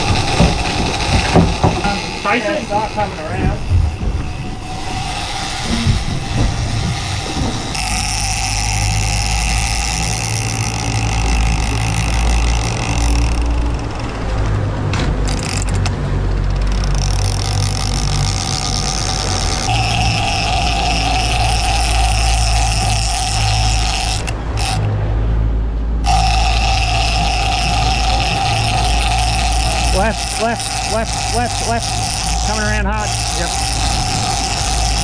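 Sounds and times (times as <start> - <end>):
water and wind hiss: 0.0 - 14.4, 16.8 - 25.0, 26.0 - 35.0
boat engine running: 0.0 - 35.0.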